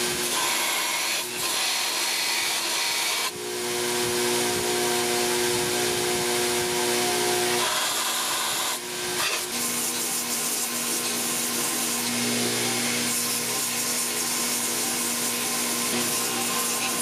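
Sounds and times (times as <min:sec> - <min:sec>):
bandsaw cutting steel: 0:00.0 - 0:17.0
belt grinder grinding steel: 0:00.0 - 0:17.0.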